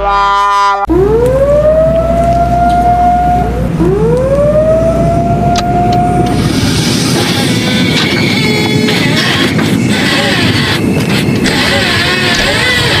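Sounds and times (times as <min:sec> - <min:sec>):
steady low rumble: 0:00.9 - 0:13.0.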